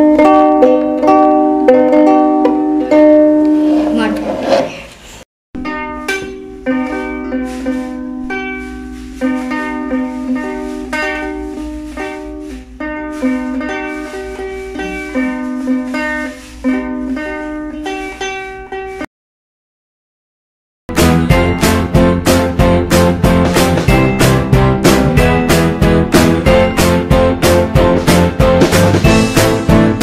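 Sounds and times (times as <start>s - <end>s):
ukulele plucked: 0.0s - 4.2s, 5.6s - 19.1s, 20.9s - 30.0s.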